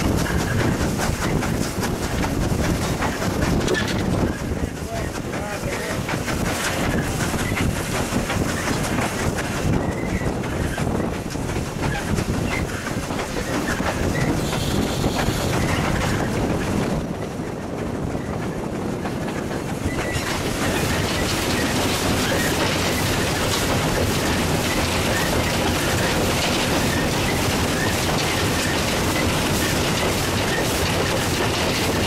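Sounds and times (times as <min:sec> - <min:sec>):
wheels clattering over rail joints: 0:00.0 - 0:32.0.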